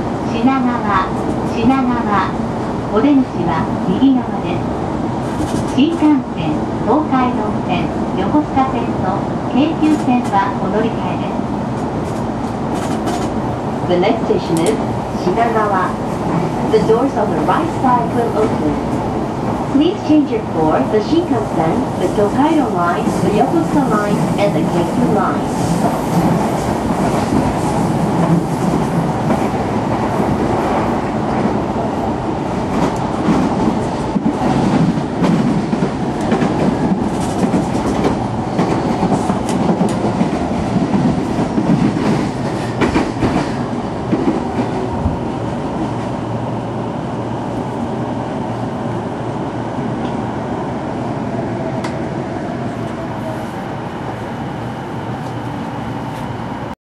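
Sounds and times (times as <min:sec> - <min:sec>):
train car rumble: 0:00.0 - 0:56.7.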